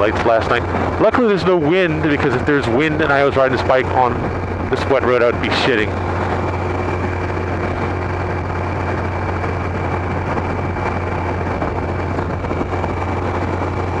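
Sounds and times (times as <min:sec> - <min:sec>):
motorcycle engine cruising: 0:00.0 - 0:14.0
wet road noise: 0:00.0 - 0:14.0
wind rush: 0:00.0 - 0:14.0.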